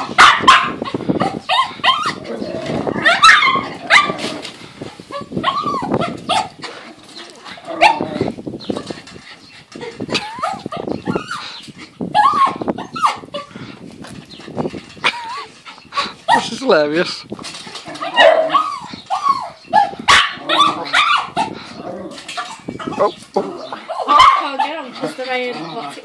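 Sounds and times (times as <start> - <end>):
small dogs barking and yapping: 0.0 - 13.5, 14.4 - 16.8, 17.5 - 26.0.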